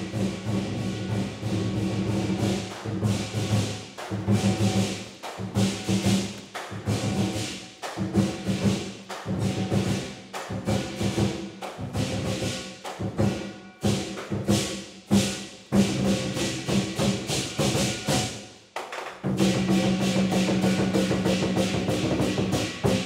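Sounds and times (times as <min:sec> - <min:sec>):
large drum beaten fast: 0:00.0 - 0:18.4, 0:19.2 - 0:23.0
clashing cymbals: 0:00.0 - 0:23.0.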